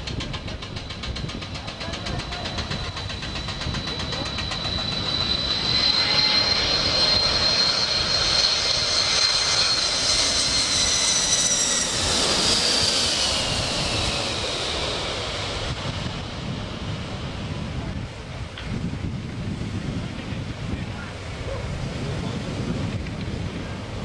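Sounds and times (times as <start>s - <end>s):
jet airliner flying overhead: 0.0s - 24.0s.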